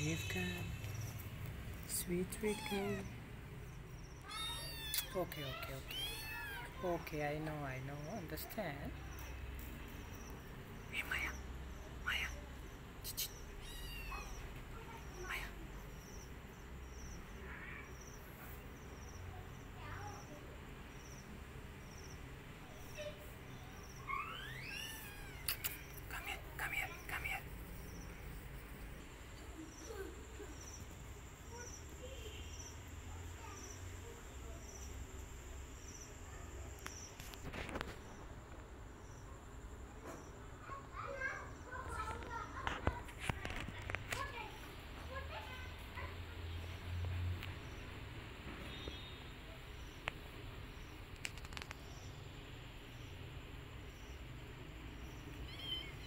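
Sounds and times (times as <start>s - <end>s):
steady high insect drone: 0.0s - 42.5s, 43.5s - 56.0s
insect high chirp: 0.0s - 56.0s
low steady hiss: 0.0s - 56.0s.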